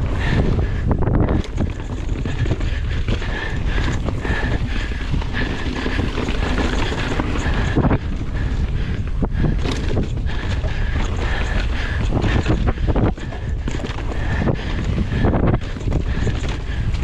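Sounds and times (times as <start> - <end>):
bike rattling over ground: 0.0 - 17.0
wind noise on microphone: 0.0 - 17.0.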